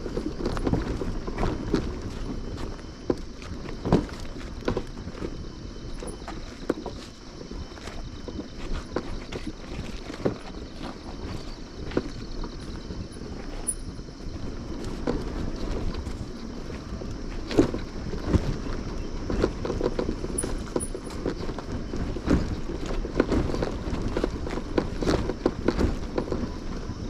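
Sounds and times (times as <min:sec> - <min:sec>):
motorcycle engine rumbling: 0:00.0 - 0:27.0.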